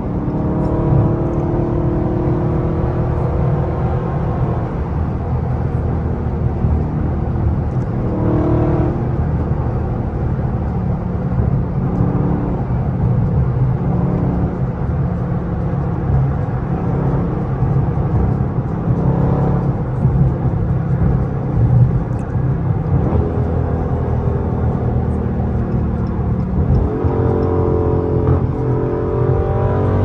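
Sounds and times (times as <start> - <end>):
deep engine drone: 0.0 - 30.0.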